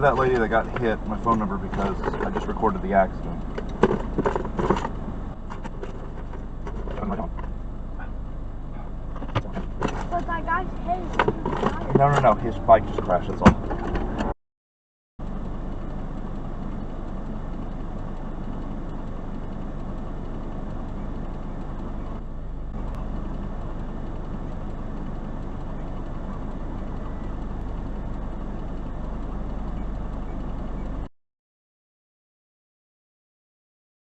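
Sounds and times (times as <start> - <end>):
car engine and road hum: 0.0 - 14.4, 15.2 - 31.1.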